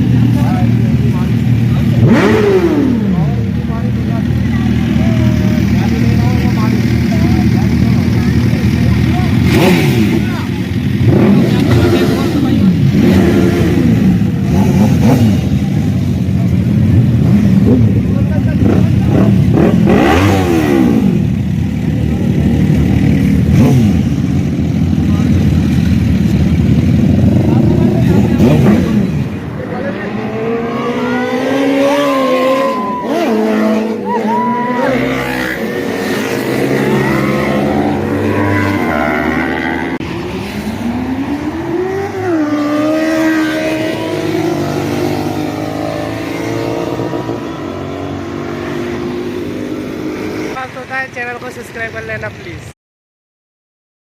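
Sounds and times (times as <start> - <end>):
motorcycle engine idling and revving: 0.0 - 52.7.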